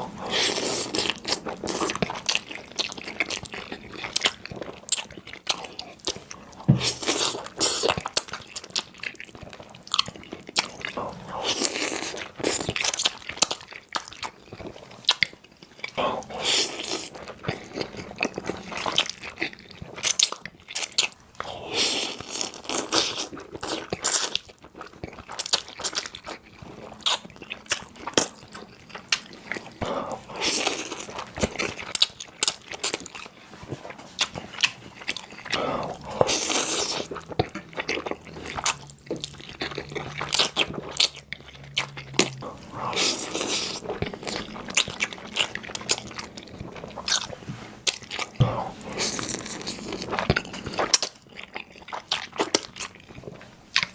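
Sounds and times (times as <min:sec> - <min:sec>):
person chewing and smacking: 0:00.0 - 0:53.9.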